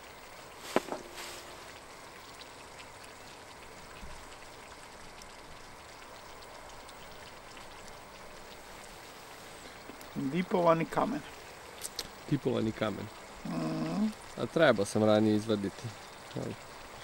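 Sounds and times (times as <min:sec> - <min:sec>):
soft outdoor hiss: 0:00.0 - 0:17.0.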